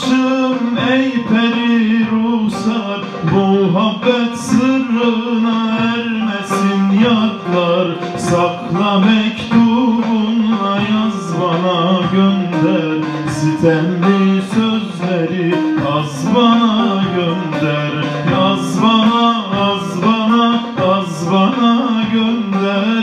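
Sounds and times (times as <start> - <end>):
man singing folk song: 0.0 - 23.0.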